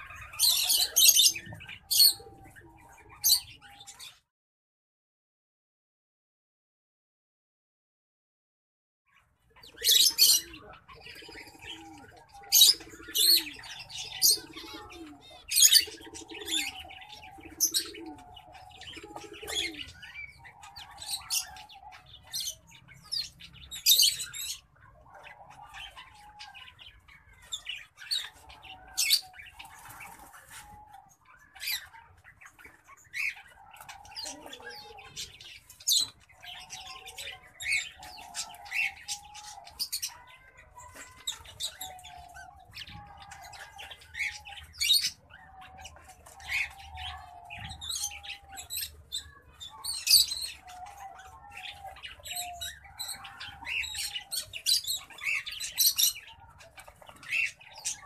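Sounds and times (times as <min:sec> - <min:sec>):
dove cooing: 0:00.0 - 0:04.2, 0:09.6 - 0:58.0.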